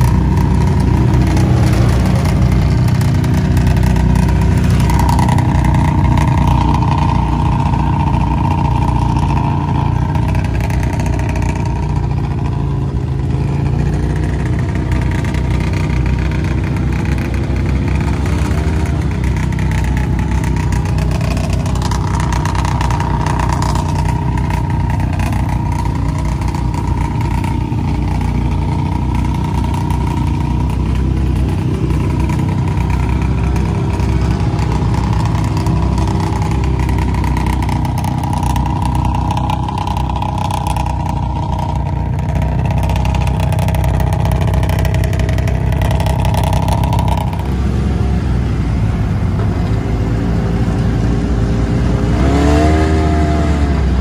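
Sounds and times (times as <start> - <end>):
engine revving: 0.0 - 54.0
vehicle engines running: 0.0 - 54.0.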